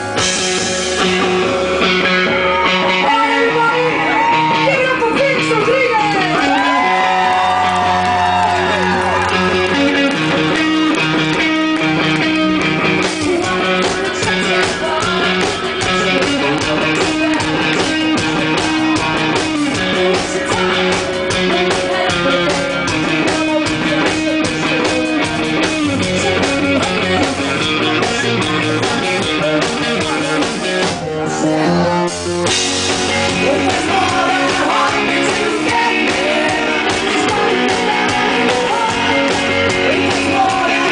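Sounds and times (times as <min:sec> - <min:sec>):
rock music with singing: 0:00.0 - 0:40.9.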